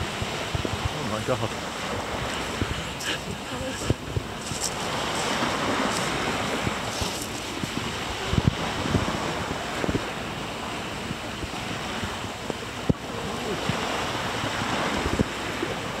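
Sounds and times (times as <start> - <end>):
waves washing on shingle: 0.0 - 16.0
wind buffeting microphone: 0.0 - 16.0.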